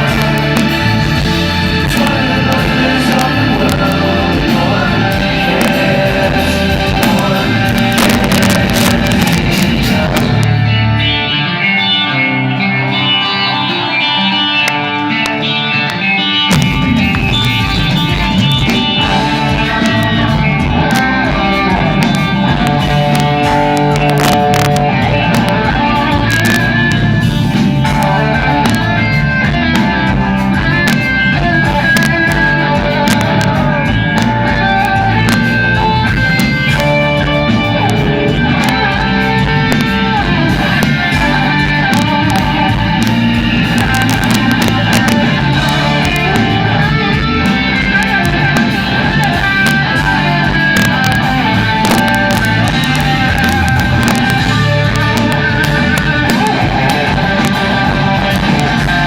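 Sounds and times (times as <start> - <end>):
electric guitar: 0.0 - 59.0
rock band playing: 0.0 - 59.0.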